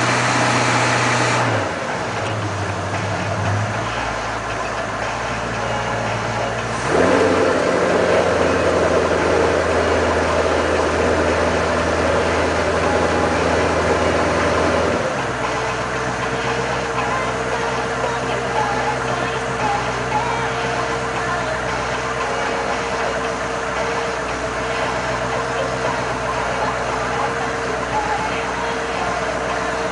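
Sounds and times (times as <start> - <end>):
motorboat engine running: 0.0 - 29.9.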